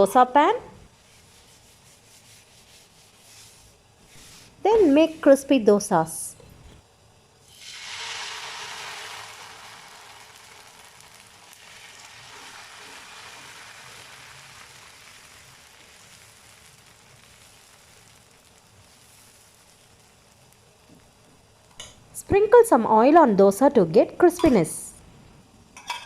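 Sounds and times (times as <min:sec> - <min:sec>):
batter sizzling on hot pan: 0:00.9 - 0:05.5, 0:06.8 - 0:23.1.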